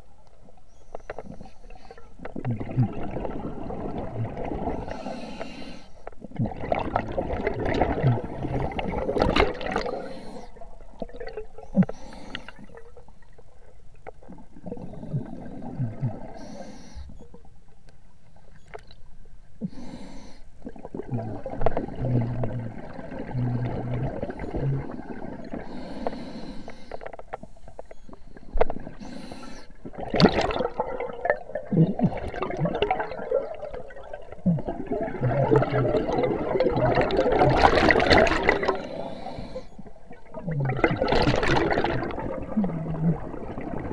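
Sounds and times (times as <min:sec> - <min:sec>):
underwater bubbling and gurgling: 0:00.0 - 0:43.9.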